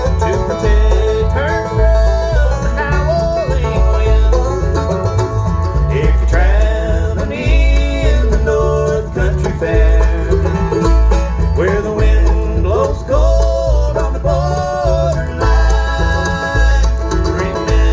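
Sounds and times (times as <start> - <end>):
banjo: 0.0 - 17.9
country bluegrass music: 0.0 - 17.9
guitar: 0.0 - 17.9
steady bass beat: 0.0 - 17.9.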